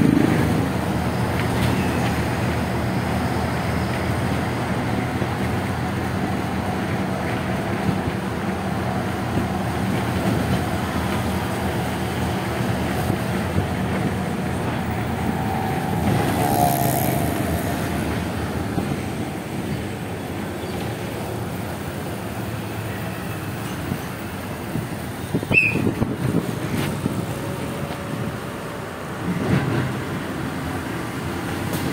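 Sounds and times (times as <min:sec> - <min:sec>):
vehicle engine and road noise: 0:00.0 - 0:31.9.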